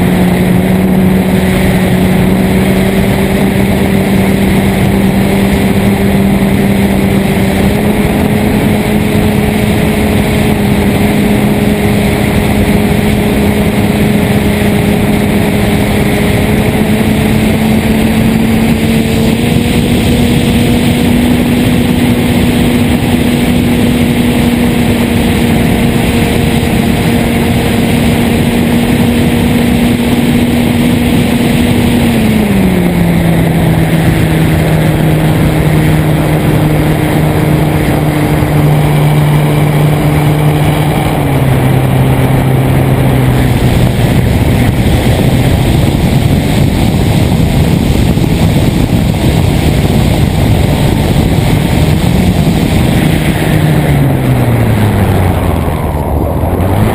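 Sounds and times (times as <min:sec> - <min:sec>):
model airplane motor and propeller: 0:00.0 - 0:56.9
wind rush: 0:00.0 - 0:56.9.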